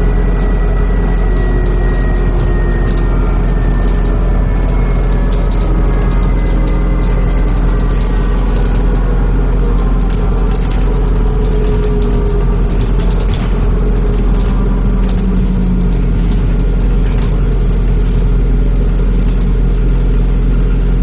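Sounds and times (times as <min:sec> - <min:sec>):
bus engine drone: 0:00.0 - 0:21.0
faint clicks and rattles: 0:00.0 - 0:21.0
road noise: 0:00.0 - 0:21.0.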